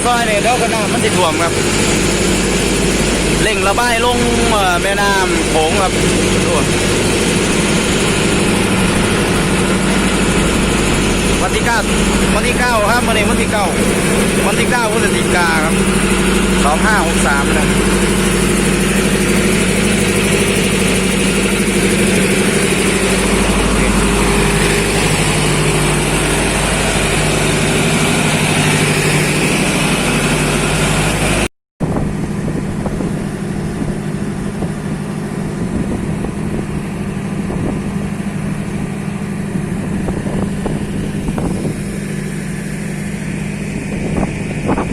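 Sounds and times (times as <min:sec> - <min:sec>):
engines droning: 0:00.0 - 0:44.9
quieter noisy engine: 0:00.0 - 0:44.9.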